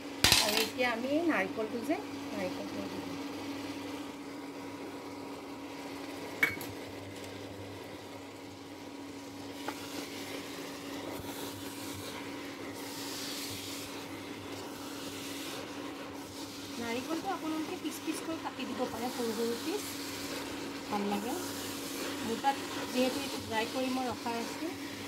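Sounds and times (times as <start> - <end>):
faint sizzle: 0.0 - 25.0
steady hum: 0.0 - 25.0.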